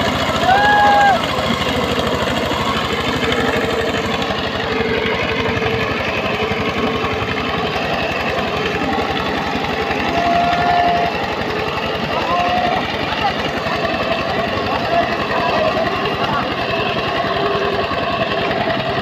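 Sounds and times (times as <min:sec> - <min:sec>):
diesel engine running hard: 0:00.0 - 0:19.0.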